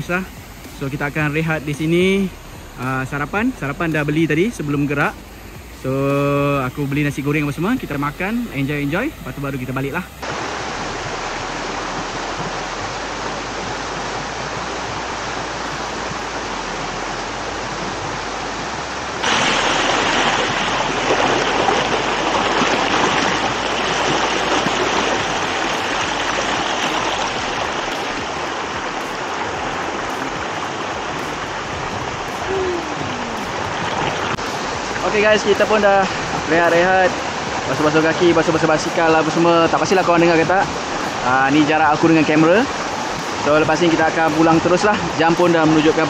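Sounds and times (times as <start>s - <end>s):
water rushing over rocks: 0.0s - 46.0s.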